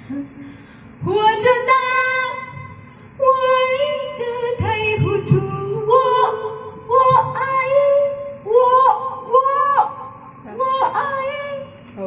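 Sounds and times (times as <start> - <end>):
woman singing into a microphone: 1.0 - 11.7.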